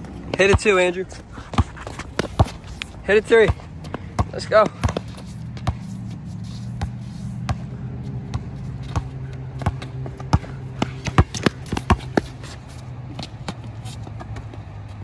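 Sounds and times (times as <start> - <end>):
basketball bouncing on court: 0.3 - 5.9, 6.7 - 14.8.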